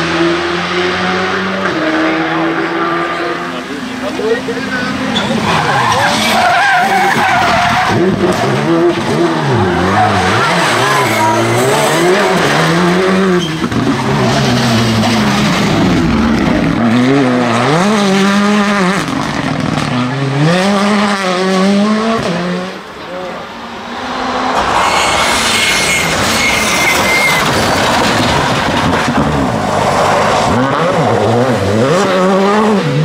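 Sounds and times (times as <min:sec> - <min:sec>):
rally car engines revving: 0:00.0 - 0:33.0
tyres skidding: 0:00.2 - 0:33.0.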